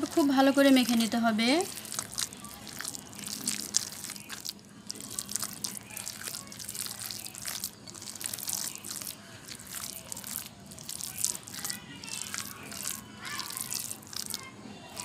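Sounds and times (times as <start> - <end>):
hand kneading wet meat mixture: 0.0 - 15.0.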